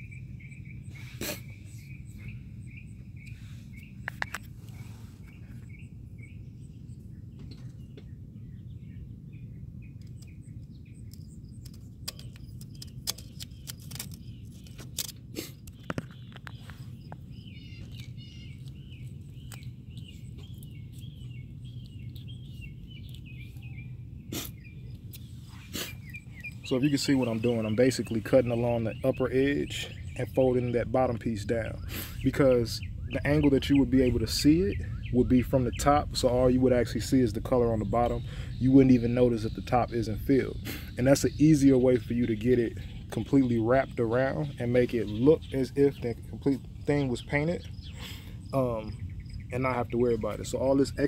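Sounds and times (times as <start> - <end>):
bird chirping: 0.0 - 51.0
insects trilling: 10.0 - 51.0.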